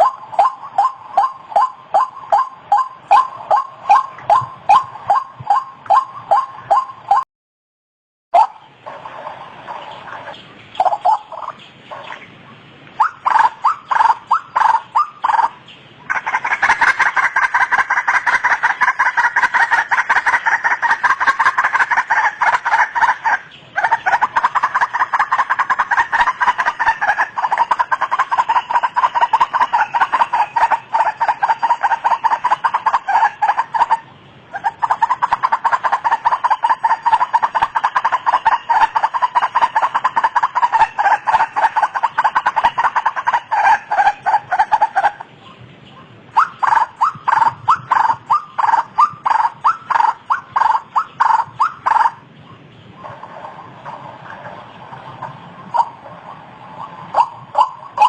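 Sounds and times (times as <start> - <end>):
waterhen calling: 0.0 - 7.2, 8.4 - 58.0.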